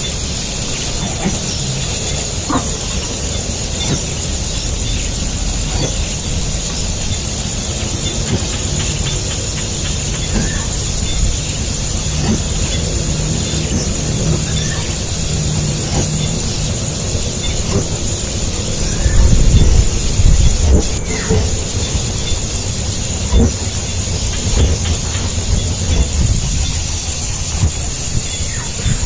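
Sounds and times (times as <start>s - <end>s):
nestling birds begging: 0.0s - 29.0s.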